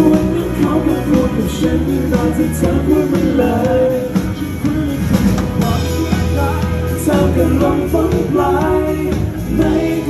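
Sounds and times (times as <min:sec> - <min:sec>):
live band playing pop song: 0:00.0 - 0:10.0
person singing: 0:00.0 - 0:10.0
steady bass line: 0:00.0 - 0:10.0.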